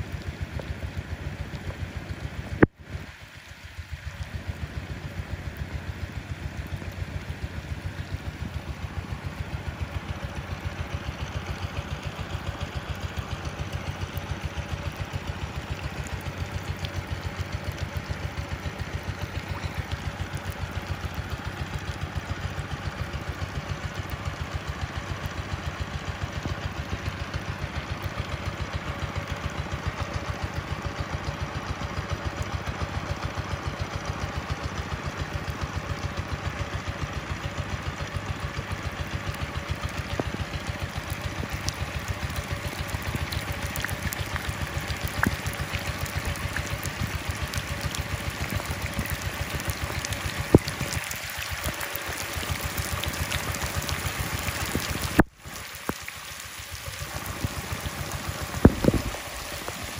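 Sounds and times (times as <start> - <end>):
engine chugging steadily: 0.0 - 59.9.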